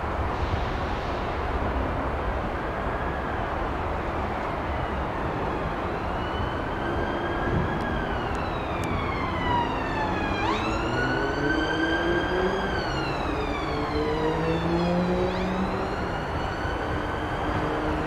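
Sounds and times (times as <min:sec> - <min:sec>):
emergency siren wailing: 0:02.4 - 0:18.0.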